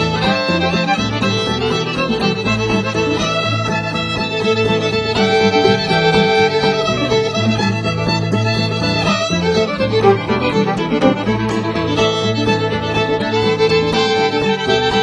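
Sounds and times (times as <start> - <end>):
bass: 0.0 - 15.0
fiddle: 0.0 - 15.0
guitar: 0.0 - 15.0.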